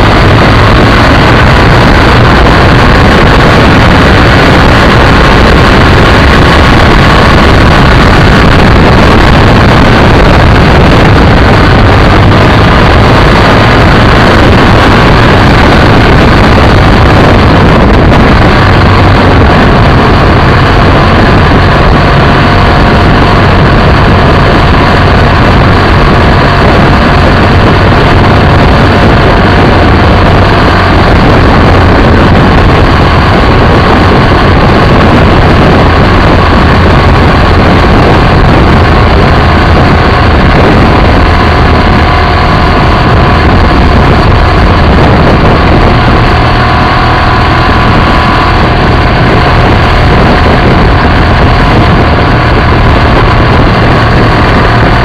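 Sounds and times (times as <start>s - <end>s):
heavy wind and road noise: 0.0s - 55.0s
motorcycle engine running: 0.0s - 55.0s.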